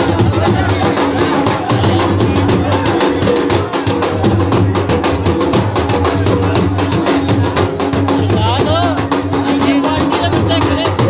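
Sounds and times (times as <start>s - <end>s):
drums beaten with sticks: 0.0s - 11.0s.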